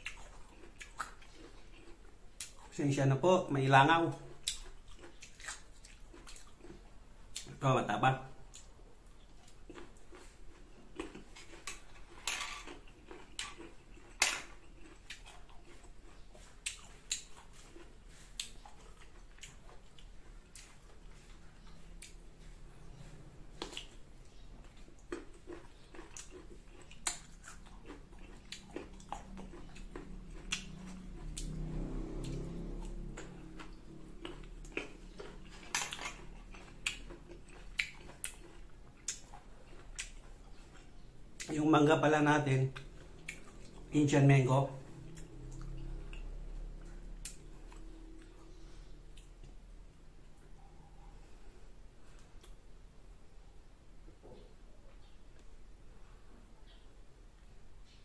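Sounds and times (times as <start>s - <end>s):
chewing crisp mango: 0.0s - 53.3s.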